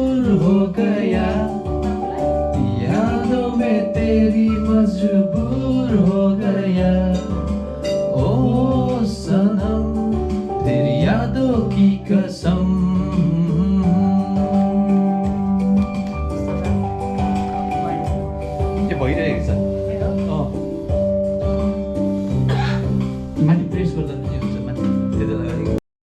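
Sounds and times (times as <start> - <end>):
person singing karaoke: 0.0 - 23.8
instrumental backing track: 0.0 - 25.8.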